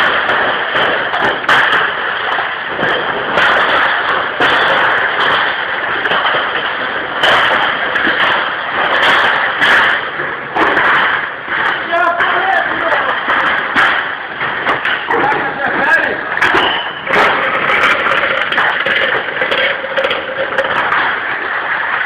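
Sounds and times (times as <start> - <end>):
glass bottles rattling and clinking: 0.0 - 22.0
pallet jack hauled over concrete: 0.0 - 22.0
sharp knocks of crates: 0.0 - 22.0.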